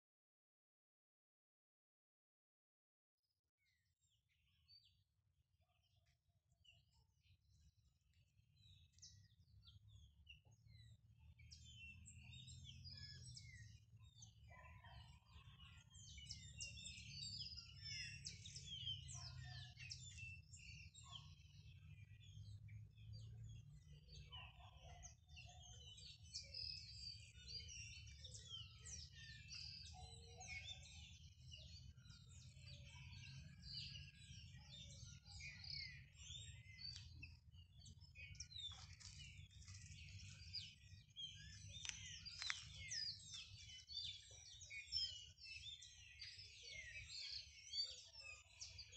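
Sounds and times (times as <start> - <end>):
small birds chirping and singing: 3.6 - 48.9.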